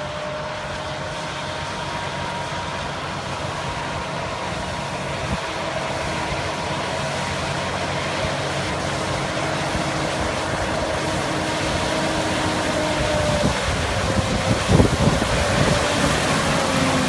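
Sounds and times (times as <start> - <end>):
high whine: 0.0 - 17.0
tractor diesel engine under load: 0.0 - 17.0.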